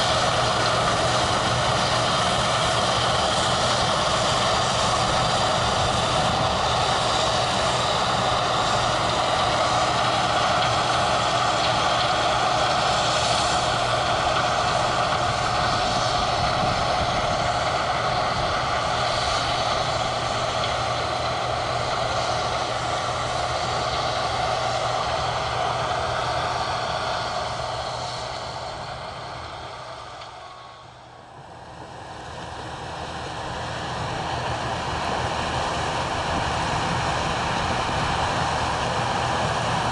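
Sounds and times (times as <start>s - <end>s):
combine harvester mechanical drone: 0.0s - 39.9s.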